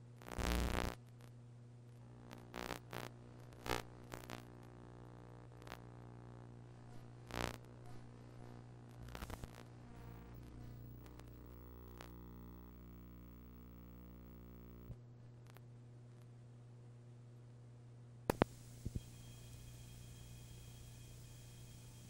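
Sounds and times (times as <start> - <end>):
crackling static bursts: 0.0 - 15.7, 18.3 - 22.0
low electrical hum: 0.0 - 22.0.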